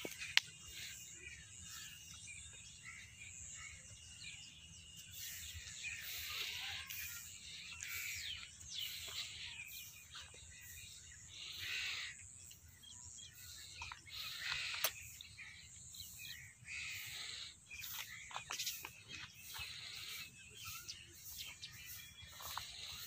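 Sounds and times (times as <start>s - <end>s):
bird chirps: 0.0s - 23.0s
insects trilling: 0.0s - 23.0s.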